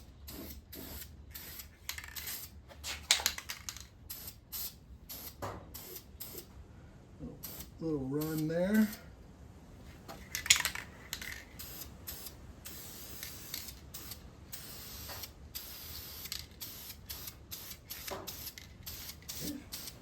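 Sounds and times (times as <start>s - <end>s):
spray paint can hissing: 0.2s - 6.5s, 7.4s - 8.5s, 10.2s - 20.0s.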